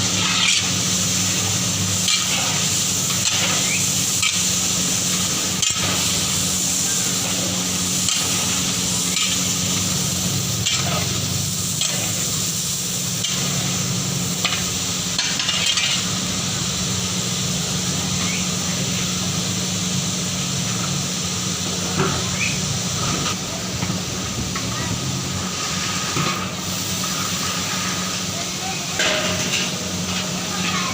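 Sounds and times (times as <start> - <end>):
beef sizzling in a pot: 0.0 - 30.9.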